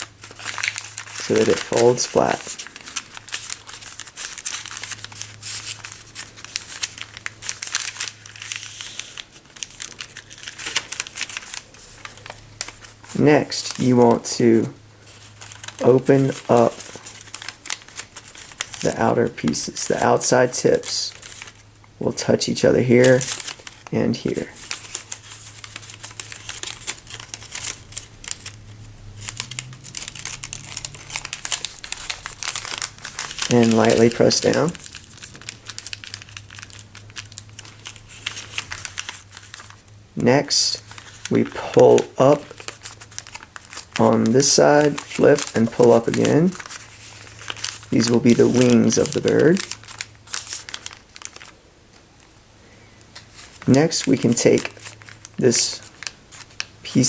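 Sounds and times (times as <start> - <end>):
paper crinkling and rustling: 0.0 - 57.0.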